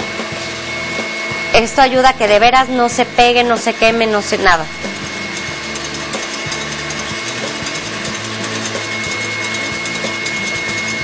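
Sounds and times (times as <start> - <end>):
background music with bass: 0.0 - 11.0
stand mixer motor whirring: 0.0 - 11.0.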